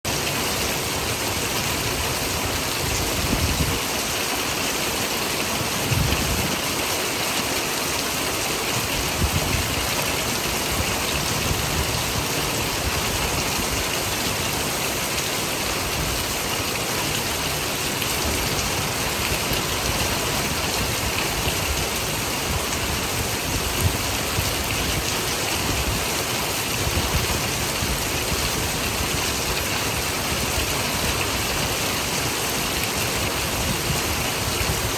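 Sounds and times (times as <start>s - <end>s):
steady rain pouring: 0.0s - 34.9s.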